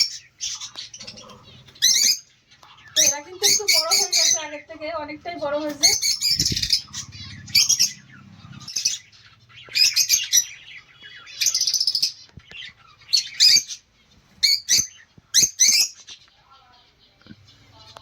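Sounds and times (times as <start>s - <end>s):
cage birds chirping: 0.0s - 18.0s.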